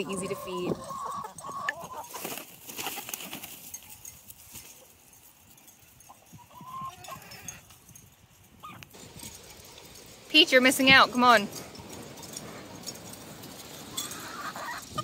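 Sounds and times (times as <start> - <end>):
hens scratching and pecking: 0.0 - 15.0.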